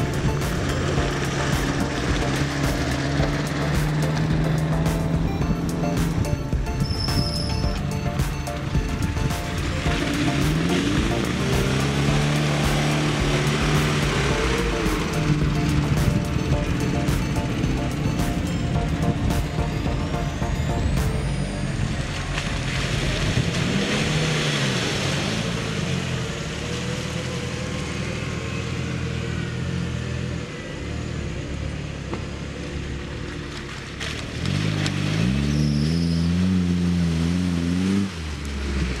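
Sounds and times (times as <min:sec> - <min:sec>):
off-road engines revving: 0:00.0 - 0:39.0.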